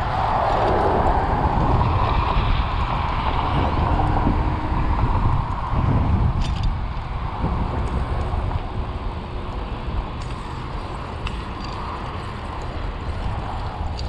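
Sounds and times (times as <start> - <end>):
bike clicks and creaks: 0.0 - 14.0
road rumble: 0.0 - 14.0
wind on microphone: 0.0 - 14.0.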